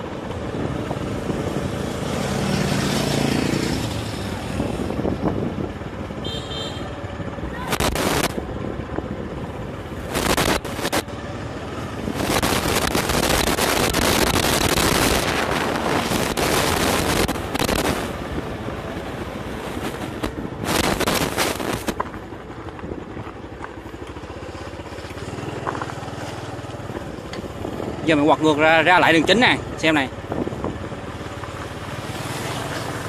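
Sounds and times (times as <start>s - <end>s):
wind rushing over microphone: 0.0s - 23.4s, 26.9s - 33.0s
motorbike engine running: 0.0s - 33.0s.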